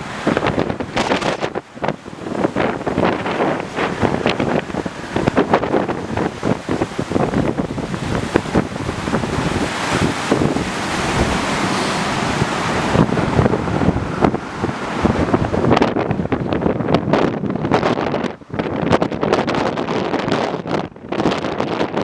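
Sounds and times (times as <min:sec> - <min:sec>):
river rushing: 0:00.0 - 0:20.3
wind buffeting microphone: 0:00.0 - 0:22.0.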